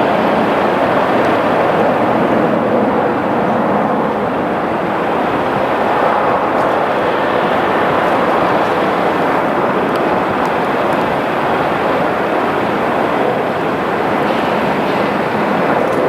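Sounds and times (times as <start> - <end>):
jet airliner engines passing: 0.0 - 16.0.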